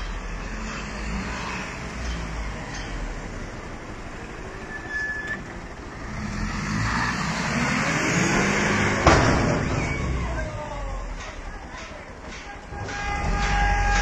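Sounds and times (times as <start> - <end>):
diesel truck engine revving: 0.0 - 11.2.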